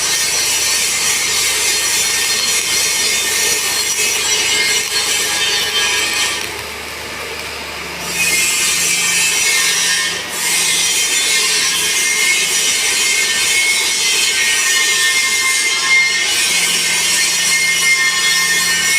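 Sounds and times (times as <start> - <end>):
welding arc crackling and hissing: 0.0 - 18.9.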